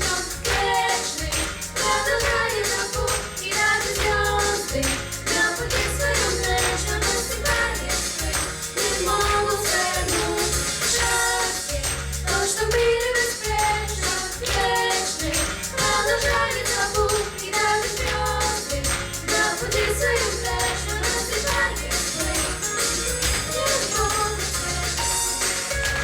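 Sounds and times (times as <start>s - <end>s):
pulsing bass line: 0.0s - 26.0s
steady percussion: 0.0s - 26.0s
vocal group singing: 0.0s - 26.0s.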